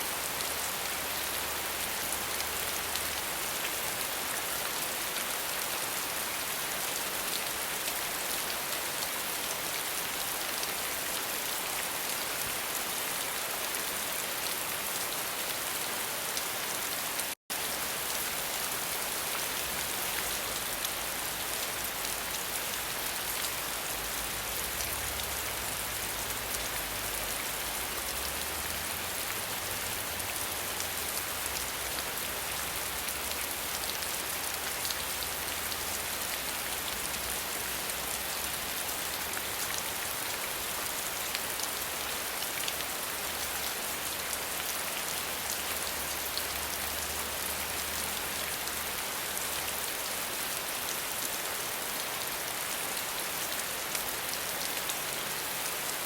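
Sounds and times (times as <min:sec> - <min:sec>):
dense rain pattering: 0:00.0 - 0:56.0.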